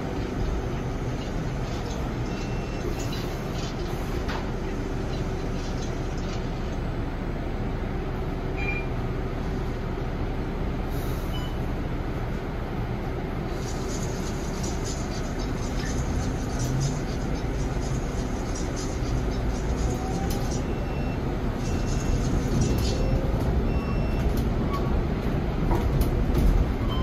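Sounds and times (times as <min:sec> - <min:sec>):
bus cabin road rumble: 0:00.0 - 0:27.0.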